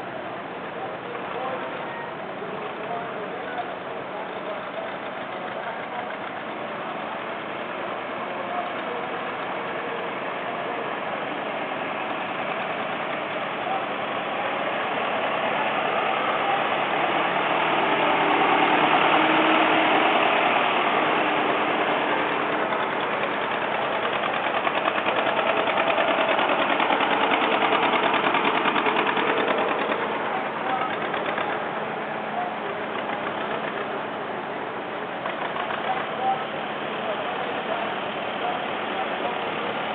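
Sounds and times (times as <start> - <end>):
tractor engines driving past: 0.0 - 39.9.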